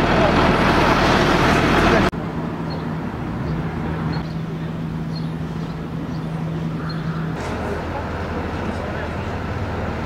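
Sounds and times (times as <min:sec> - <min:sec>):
heavy machine engine humming: 0:00.0 - 0:10.0
street noise: 0:00.0 - 0:10.0.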